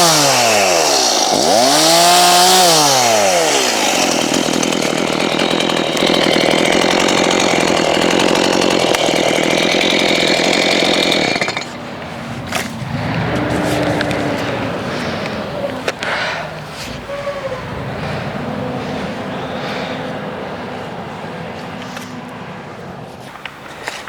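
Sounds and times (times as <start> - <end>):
chainsaw cutting wood: 0.0 - 17.0, 20.8 - 22.3, 23.0 - 24.0.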